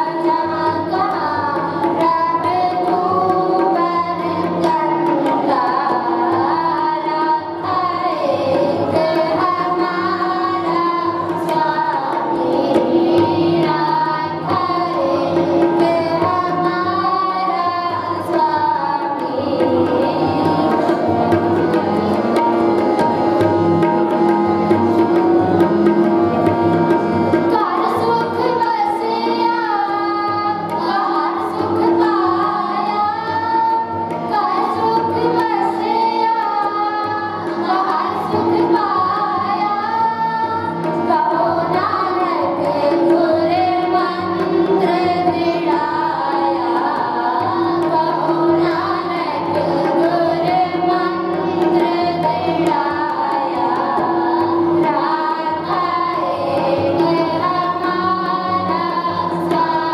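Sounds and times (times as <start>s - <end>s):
children singing in unison: 0.0s - 59.9s
harmonium held tone: 0.0s - 59.9s
tabla strokes: 0.0s - 59.9s.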